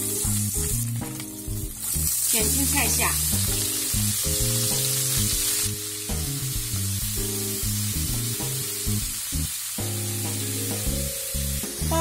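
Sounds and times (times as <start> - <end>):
background music: 0.0 - 12.0
cabbage sizzling in frying pan: 0.0 - 12.0.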